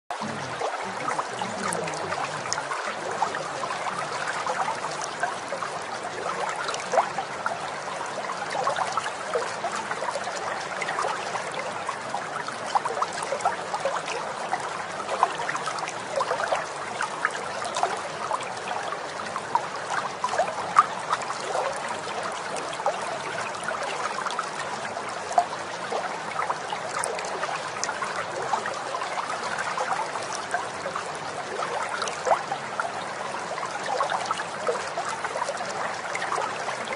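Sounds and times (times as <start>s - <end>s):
water trickling and bubbling: 0.1s - 36.9s.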